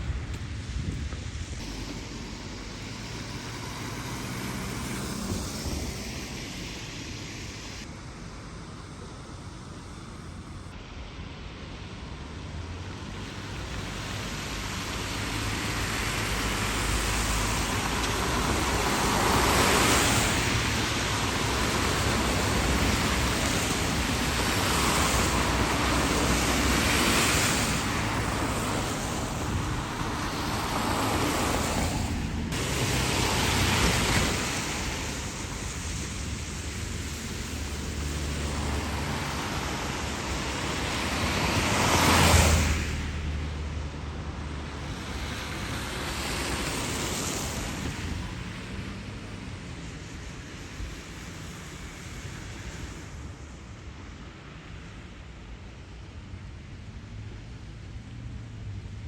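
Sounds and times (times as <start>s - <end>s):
snowstorm wind rush: 0.0s - 58.4s.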